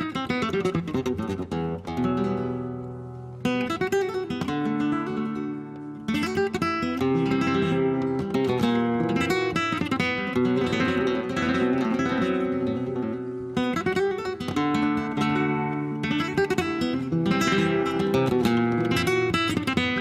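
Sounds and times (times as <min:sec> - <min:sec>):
classical guitar strummed chords: 0:00.0 - 0:20.0.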